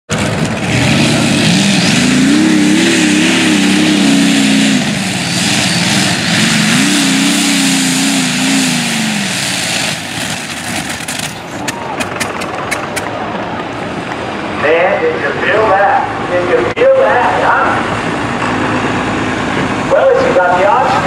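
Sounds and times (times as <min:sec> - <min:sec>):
tractor engine at full throttle: 0:00.1 - 0:21.0.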